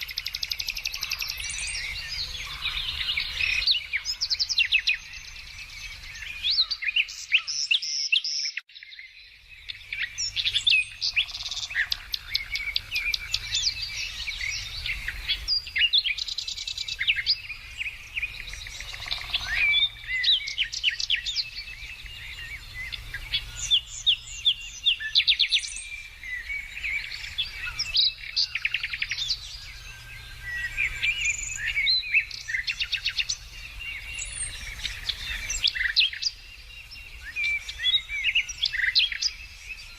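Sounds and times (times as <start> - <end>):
songbirds chirping chorus: 0.0 - 39.9.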